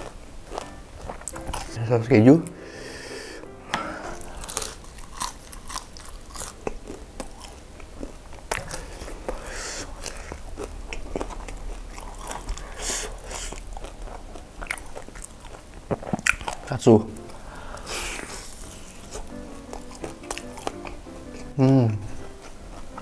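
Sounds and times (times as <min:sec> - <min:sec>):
chewing crispy fried chicken: 0:00.0 - 0:01.8, 0:04.1 - 0:23.0.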